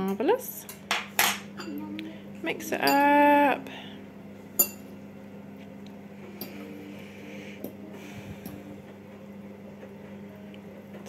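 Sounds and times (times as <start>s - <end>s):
low hum: 1.1s - 11.0s.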